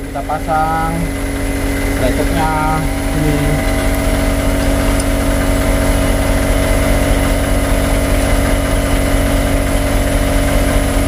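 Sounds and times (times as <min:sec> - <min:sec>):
machine engine droning: 0:00.0 - 0:11.0.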